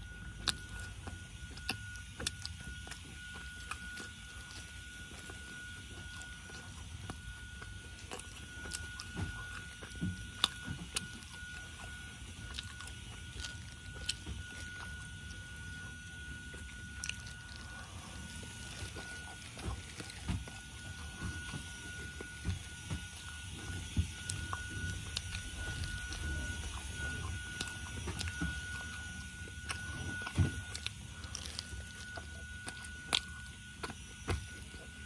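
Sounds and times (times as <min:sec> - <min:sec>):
wet chewing clicks: 0:00.0 - 0:35.0.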